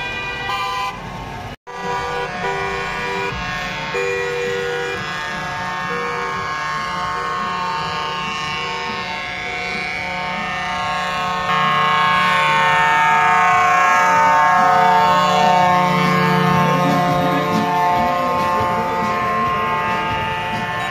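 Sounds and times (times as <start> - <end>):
vehicle horns blasting: 0.0 - 1.1, 1.7 - 20.9
lorry engine running: 0.0 - 20.9.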